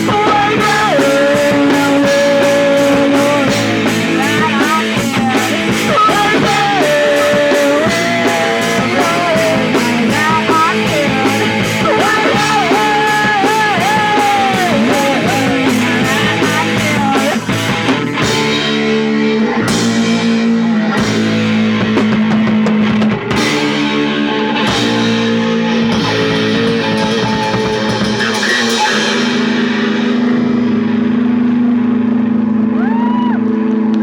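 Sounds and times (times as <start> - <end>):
punk rock music: 0.0 - 33.9.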